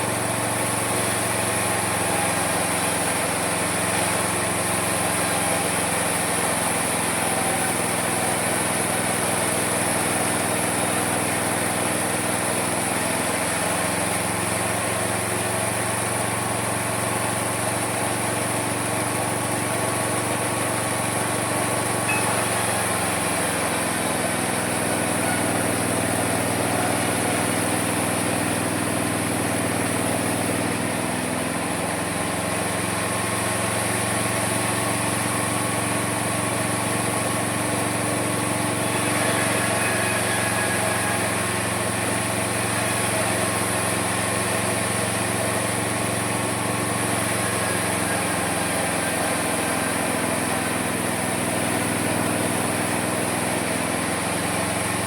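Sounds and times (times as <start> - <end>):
saw cutting wood: 0.0 - 55.0
small engine running: 0.0 - 55.0.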